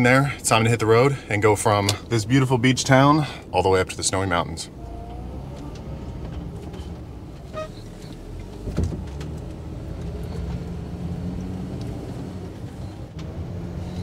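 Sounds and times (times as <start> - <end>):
van engine rumble: 0.0 - 14.0.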